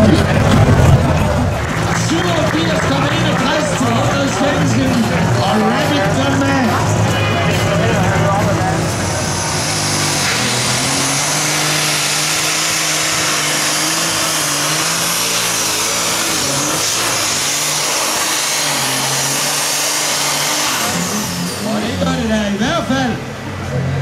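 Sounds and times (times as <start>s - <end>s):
tractor engine running flat out: 0.0s - 24.0s.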